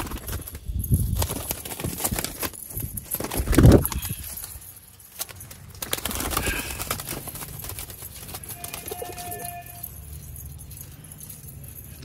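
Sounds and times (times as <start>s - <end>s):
wings fluttering: 0.0s - 9.9s
pigeons tapping and clicking: 0.0s - 12.0s.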